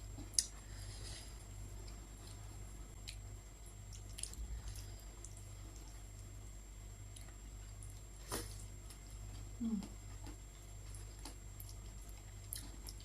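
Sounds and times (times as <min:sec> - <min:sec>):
person chewing wet food: 0:00.0 - 0:06.4, 0:07.0 - 0:13.0.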